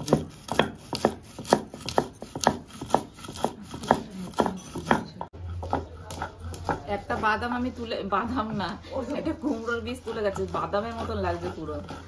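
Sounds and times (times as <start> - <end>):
stone roller knocking and grinding: 0.0 - 12.0.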